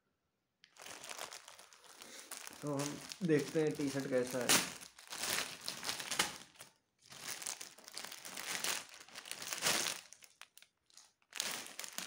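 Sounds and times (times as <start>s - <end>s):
plastic mailer crinkling: 0.7s - 12.0s.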